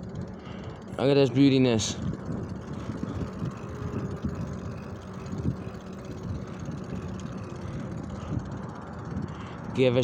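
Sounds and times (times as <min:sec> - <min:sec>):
bicycle rolling noise: 0:00.0 - 0:10.0.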